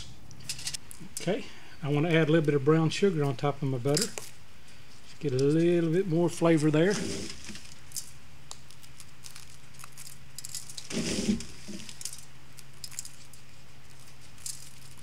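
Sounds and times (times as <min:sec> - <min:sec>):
sugar sprinkled onto foil: 0:02.3 - 0:15.0.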